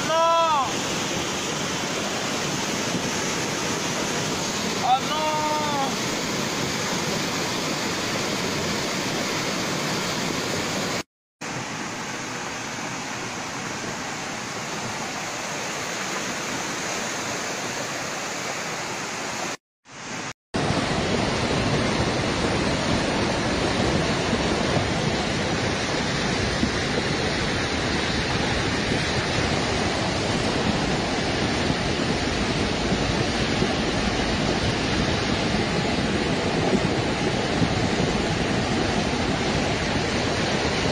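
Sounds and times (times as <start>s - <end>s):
flood water rushing: 0.0s - 40.9s.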